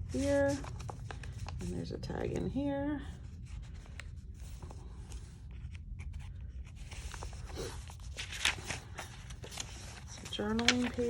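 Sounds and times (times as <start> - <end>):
paper rustling: 0.0 - 1.8, 3.5 - 11.0
low steady hum: 0.0 - 11.0.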